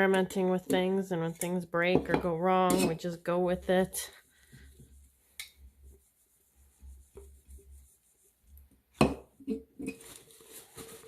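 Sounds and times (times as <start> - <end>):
handling and rubbing of tumbler: 0.1 - 11.0.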